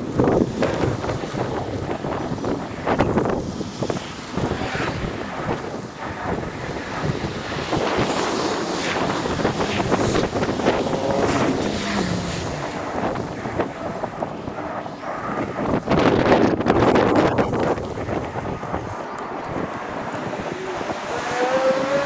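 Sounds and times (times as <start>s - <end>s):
road and traffic noise: 0.0s - 22.0s
wind buffeting microphone: 0.0s - 22.0s.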